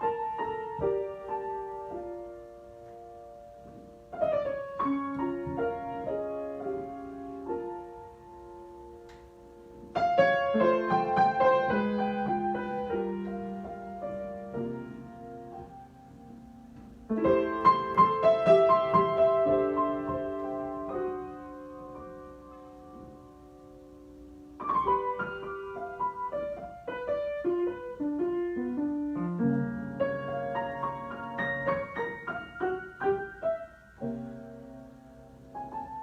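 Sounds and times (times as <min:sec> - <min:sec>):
solo piano: 0:00.0 - 0:36.0.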